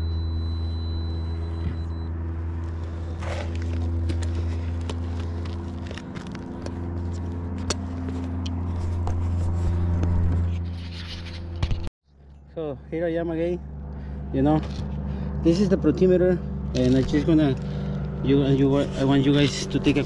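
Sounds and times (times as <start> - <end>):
low machine hum: 0.0 - 10.8, 11.4 - 20.0.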